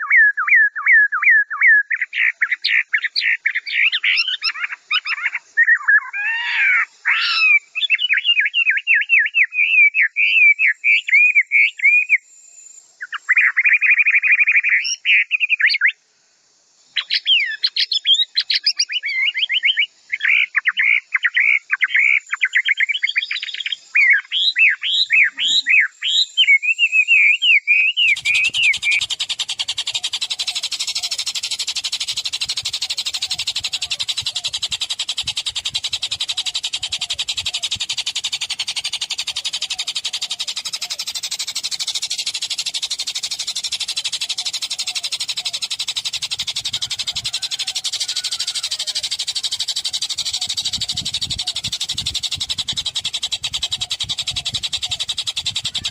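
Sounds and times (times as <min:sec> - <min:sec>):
songbird chirping and trilling: 0:00.0 - 0:16.1, 0:16.8 - 0:55.9.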